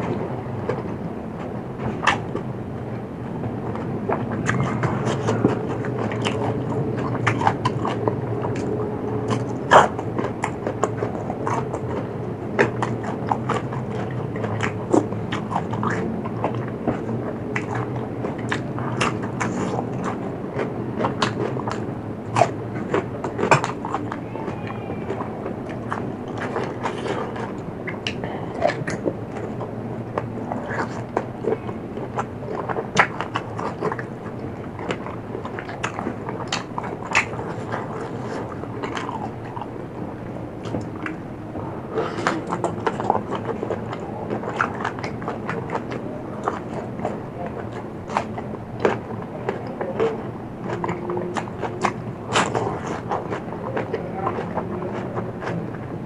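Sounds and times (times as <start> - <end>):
chewing crunchy food: 0.0 - 56.0
steady low hum: 0.0 - 56.0
wet mouth clicks: 3.7 - 41.2, 41.8 - 55.9.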